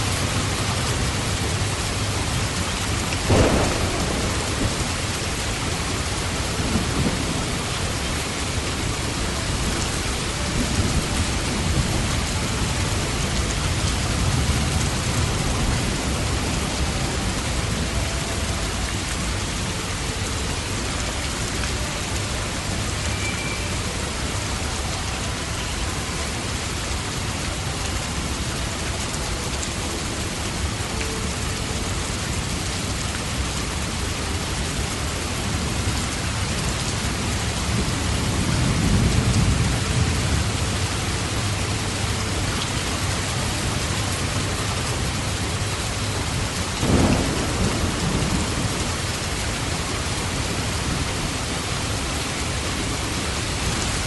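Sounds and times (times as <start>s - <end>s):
steady rain: 0.0s - 54.0s
low rumble of thunder: 0.1s - 20.8s, 31.3s - 54.0s.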